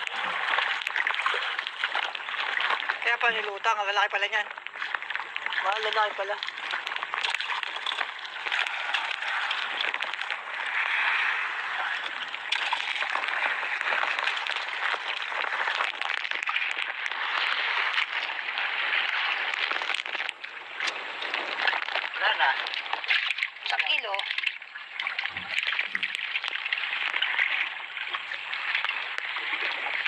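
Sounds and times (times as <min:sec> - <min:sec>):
small crackles and knocks: 0:00.0 - 0:11.1, 0:11.8 - 0:30.0
sea splashing against boat: 0:00.0 - 0:30.0.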